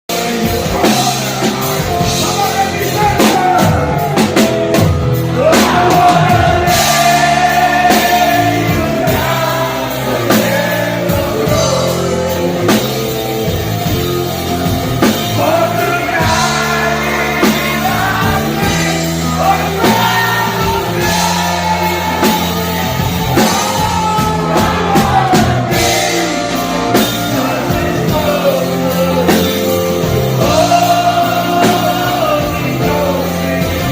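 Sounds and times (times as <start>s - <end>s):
band accompaniment: 0.0s - 33.9s
man singing: 0.1s - 33.9s.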